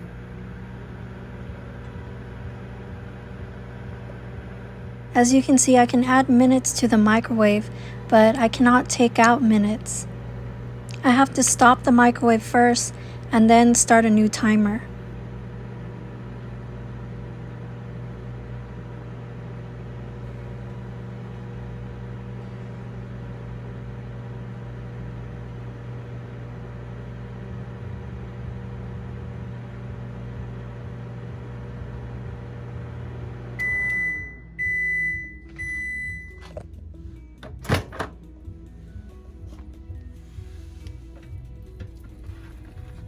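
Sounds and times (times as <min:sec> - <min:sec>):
microwave humming: 0:00.0 - 0:43.0.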